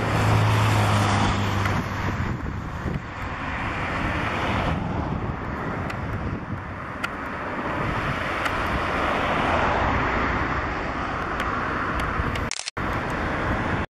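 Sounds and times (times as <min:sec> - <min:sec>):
wind buffeting microphone: 0:00.0 - 0:13.8
jet engine noise: 0:00.0 - 0:13.9.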